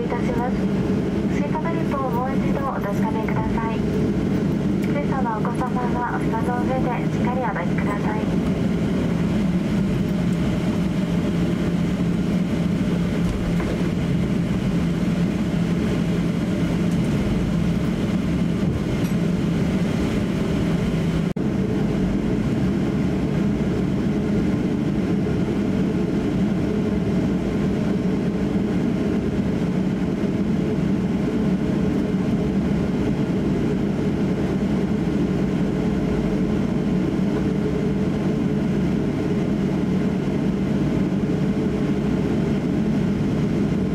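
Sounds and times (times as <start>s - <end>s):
jet engines droning: 0.0s - 43.9s
wheels rumbling on runway: 0.0s - 43.9s.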